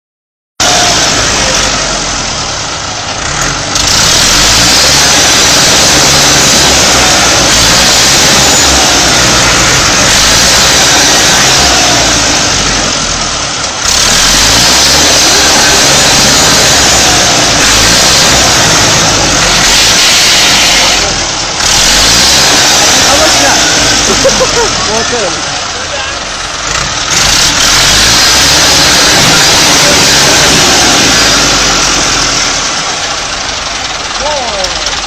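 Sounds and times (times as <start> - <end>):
tractor engine revving hard: 0.6 - 35.0.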